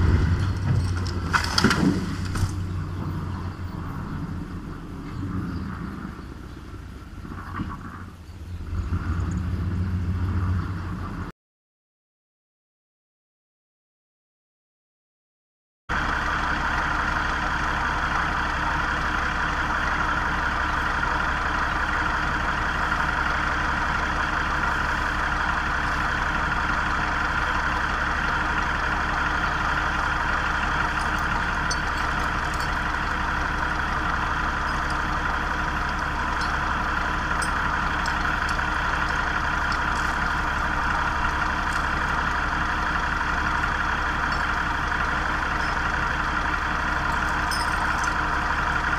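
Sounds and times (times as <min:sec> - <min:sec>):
vehicle engine running: 0:00.0 - 0:11.3, 0:15.9 - 0:48.9.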